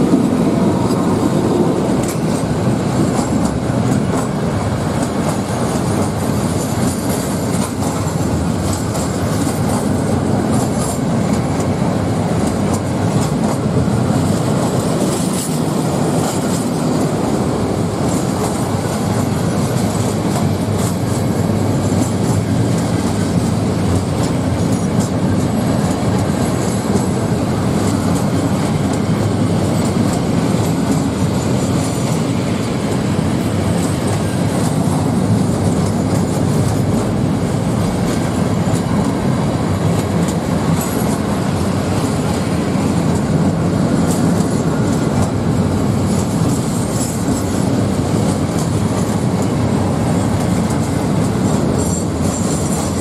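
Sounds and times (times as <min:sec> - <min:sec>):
freight train wheels rumbling on rail: 0:00.0 - 0:53.0
wagons clattering over track: 0:00.0 - 0:53.0.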